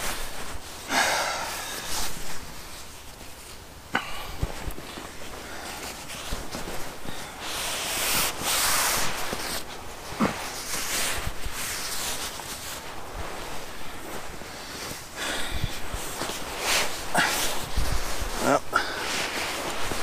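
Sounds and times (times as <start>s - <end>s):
nylon fabric rustling: 0.0s - 20.0s.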